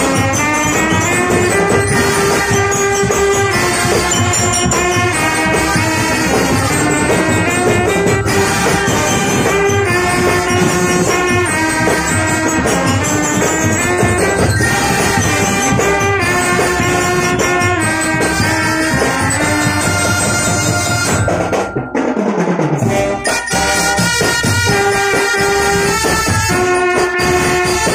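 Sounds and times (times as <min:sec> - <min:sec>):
brass marching band playing: 0:00.0 - 0:27.9.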